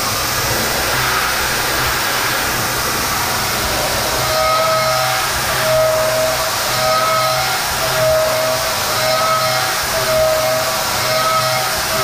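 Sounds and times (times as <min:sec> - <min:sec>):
mill cutting steel: 0:00.0 - 0:12.0
pitched machine whine: 0:00.0 - 0:12.0.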